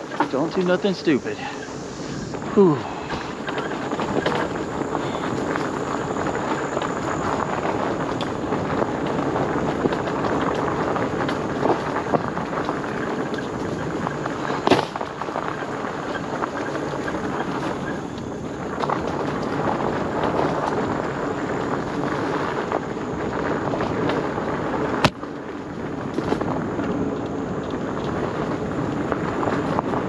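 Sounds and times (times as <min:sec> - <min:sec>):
tyres rolling on gravel: 0:00.0 - 0:30.0
wind buffeting microphone: 0:00.0 - 0:30.0.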